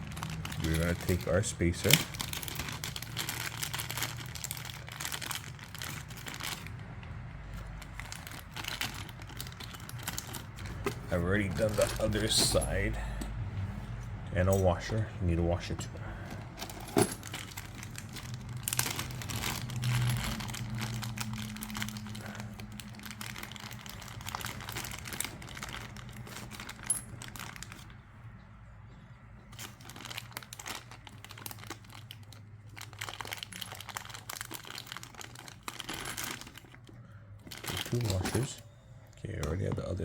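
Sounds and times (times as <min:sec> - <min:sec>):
packaging crinkling: 0:00.0 - 0:12.8, 0:16.4 - 0:28.0, 0:29.5 - 0:38.6
low steady hum: 0:00.0 - 0:40.0.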